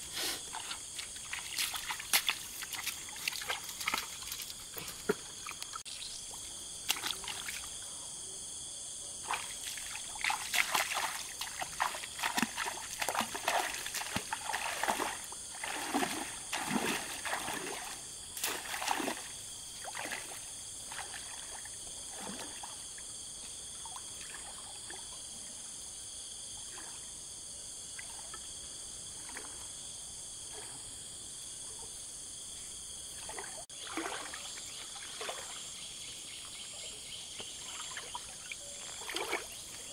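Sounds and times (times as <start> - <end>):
water splashing and trickling: 0.2 - 8.0, 9.2 - 25.3, 27.9 - 31.0, 33.0 - 39.9.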